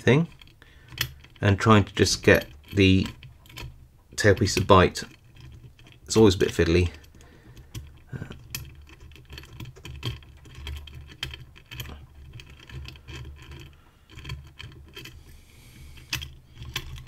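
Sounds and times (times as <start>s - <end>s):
metal lock parts clicking: 0.0s - 17.0s.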